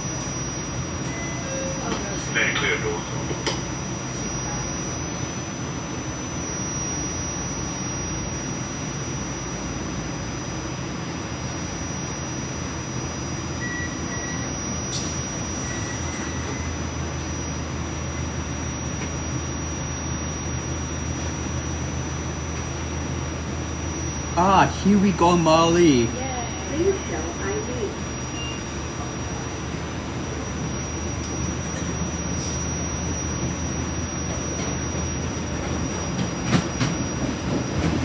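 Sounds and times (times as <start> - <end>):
high whine: 0.0 - 38.0
light-rail car rumble and hiss: 0.0 - 38.0.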